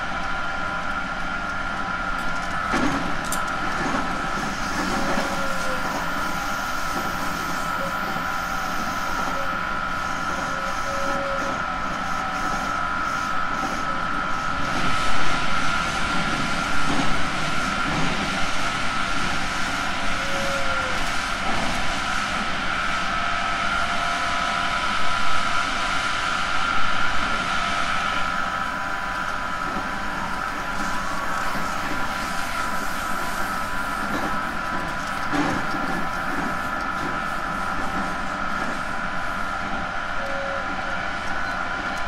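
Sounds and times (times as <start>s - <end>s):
train rolling rumble with whine: 0.0s - 42.0s.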